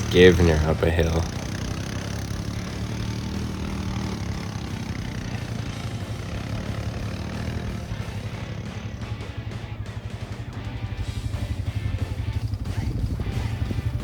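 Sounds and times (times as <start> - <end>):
small engine running under load: 0.0 - 14.0.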